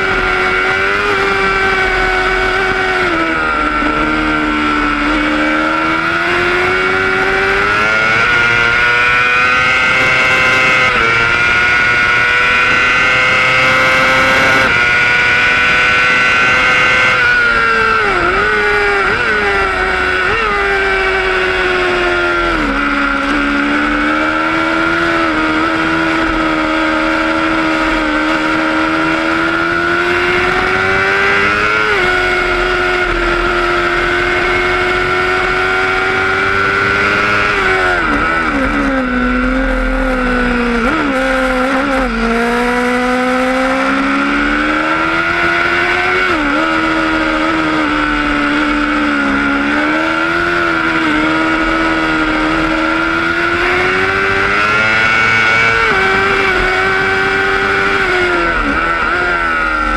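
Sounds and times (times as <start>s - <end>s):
racing motorcycle engine revving: 0.0s - 59.9s.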